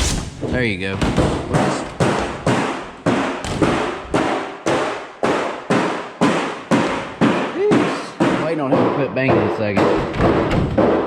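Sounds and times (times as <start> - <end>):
hammer banging on metal: 0.4 - 11.0.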